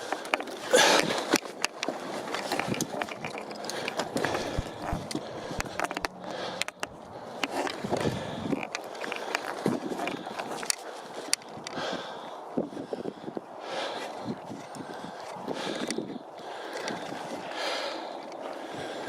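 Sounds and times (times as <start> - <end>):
footsteps crunching on rocky trail: 0.0 - 19.0.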